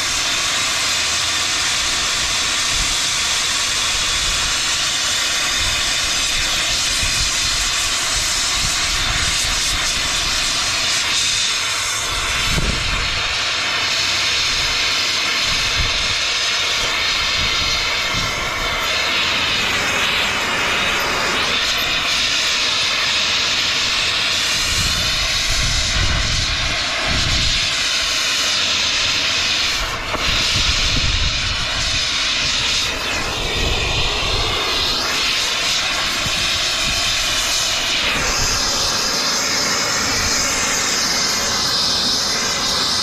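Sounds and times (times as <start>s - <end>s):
torch burning with loud hiss: 0.0s - 43.0s.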